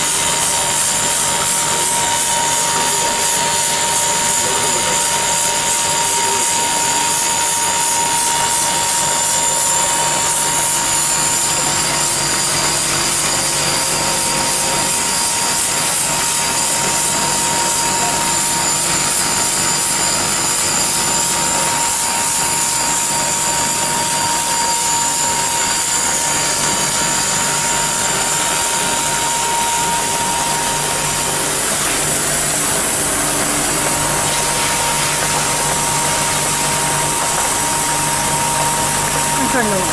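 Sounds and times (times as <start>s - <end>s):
constant thin whine: 0.0s - 39.9s
printing machine running: 0.0s - 39.9s.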